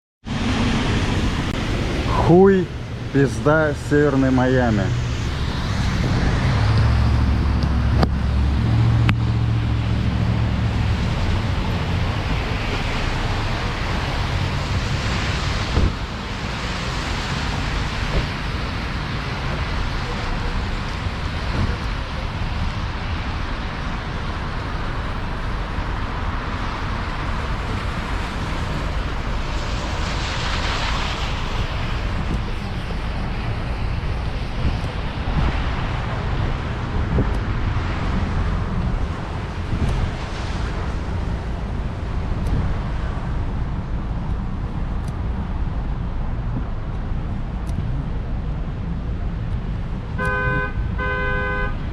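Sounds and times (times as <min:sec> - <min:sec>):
deep rumble: 0:00.2 - 0:50.2
tyre and wind noise on wet road: 0:00.2 - 0:51.9.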